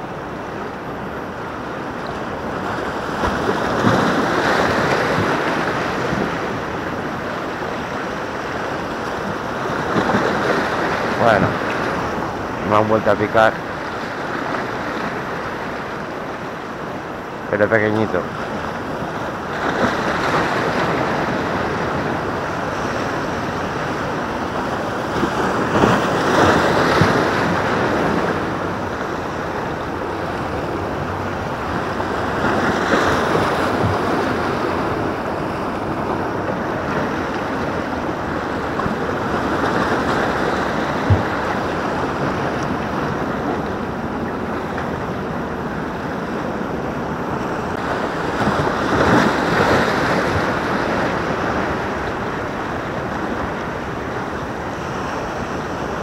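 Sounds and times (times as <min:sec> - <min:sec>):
waves washing over rocks: 0:00.0 - 0:56.0.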